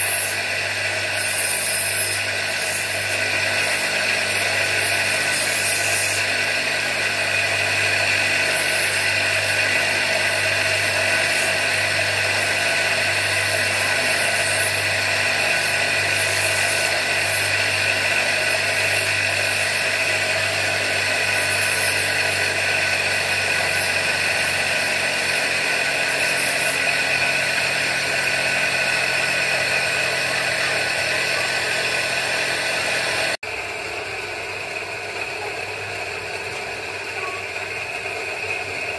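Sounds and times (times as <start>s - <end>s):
bench grinder grinding stone: 0.0s - 38.9s.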